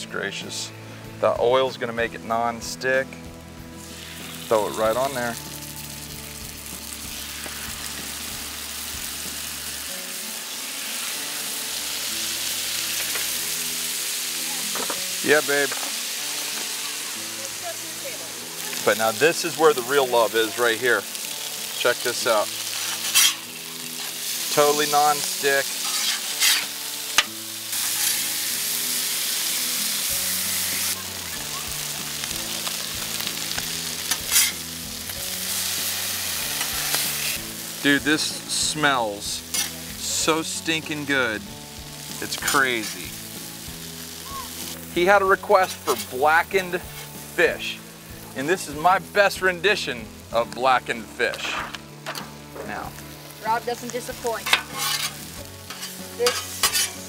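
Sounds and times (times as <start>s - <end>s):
background music: 0.0s - 57.0s
fish sizzling on a griddle: 2.2s - 57.0s.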